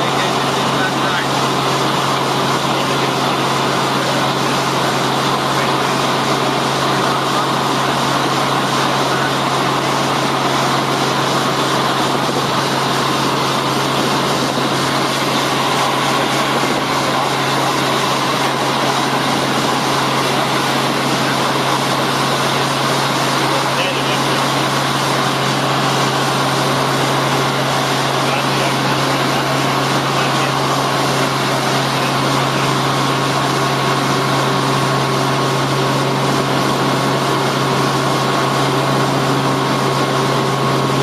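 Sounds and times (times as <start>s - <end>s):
helicopter engine and rotor drone: 0.0s - 41.0s.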